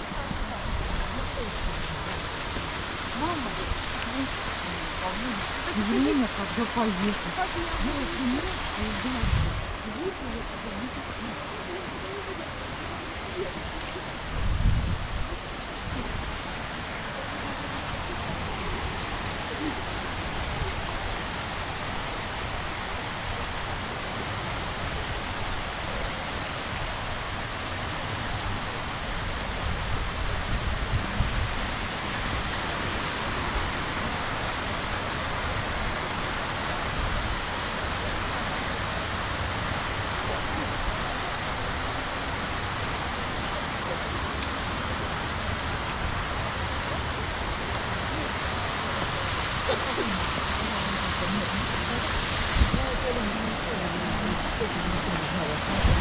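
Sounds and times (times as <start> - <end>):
fountain water splashing: 0.0 - 56.0.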